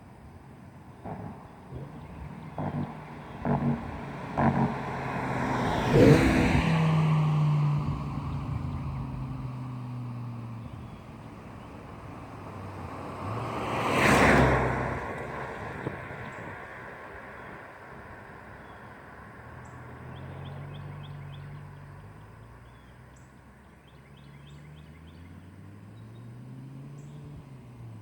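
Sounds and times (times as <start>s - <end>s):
vehicle passing: 0.7s - 22.8s, 23.8s - 28.0s
car driving past: 0.8s - 28.0s.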